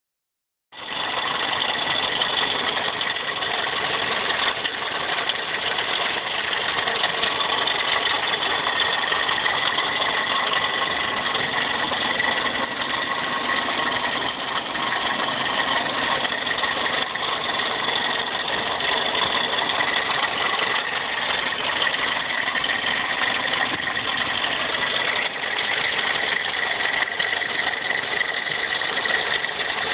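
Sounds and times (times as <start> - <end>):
car engine running: 0.7 - 29.9
rattling noise: 0.8 - 29.9.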